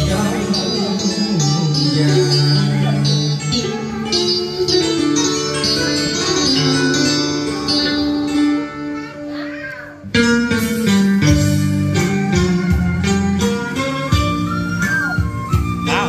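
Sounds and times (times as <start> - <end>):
karaoke backing track with guitar: 0.0 - 16.0.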